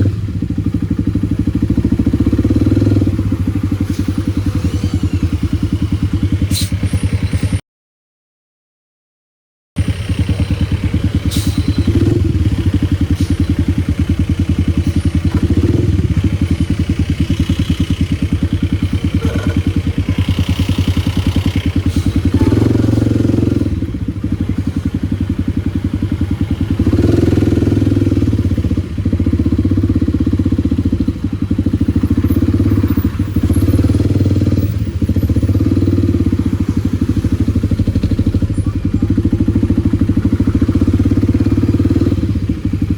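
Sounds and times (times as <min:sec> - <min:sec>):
motorcycle engine running: 0:00.0 - 0:07.6, 0:09.8 - 0:42.9.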